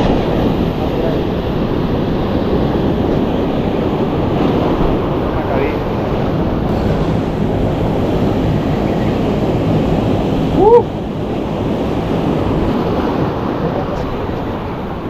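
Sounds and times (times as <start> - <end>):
surf: 0.0 - 15.0
wind on the microphone: 0.0 - 15.0.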